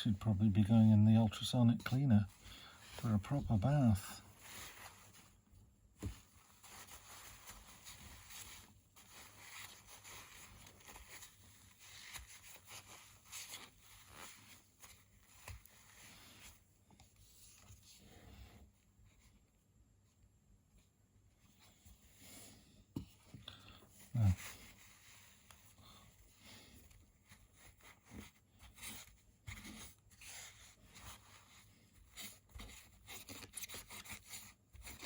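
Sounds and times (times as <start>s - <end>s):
tissue rustling and scraping: 1.8s - 19.7s, 23.9s - 35.0s.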